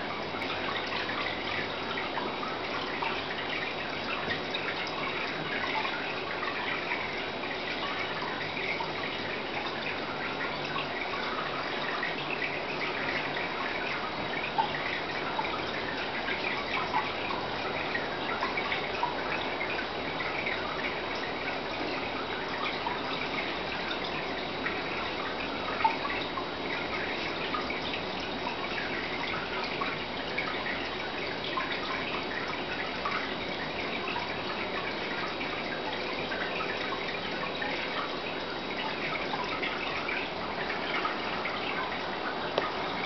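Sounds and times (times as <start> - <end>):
faint steady hum: 0.0 - 43.0
water plinks: 0.0 - 43.0
water trickling and dripping: 0.0 - 43.0.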